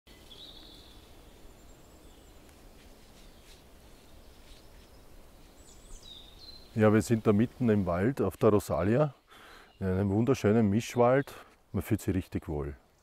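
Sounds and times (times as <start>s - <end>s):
distant birds singing: 0.1s - 13.0s
steady low background noise: 0.2s - 13.0s.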